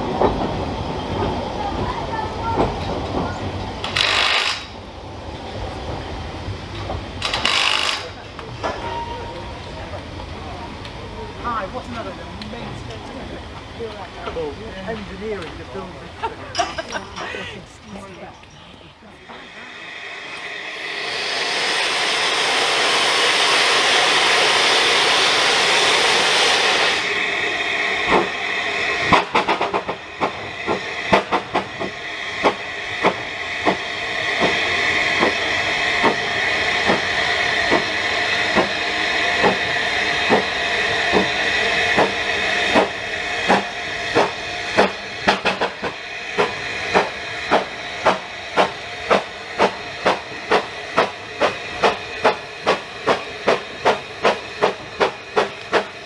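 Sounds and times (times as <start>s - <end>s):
train wheels clicking over rail joints: 0.0s - 9.2s, 11.7s - 17.6s, 19.2s - 56.0s
high whine from train wheels: 0.0s - 56.0s
steam hissing: 0.0s - 56.0s.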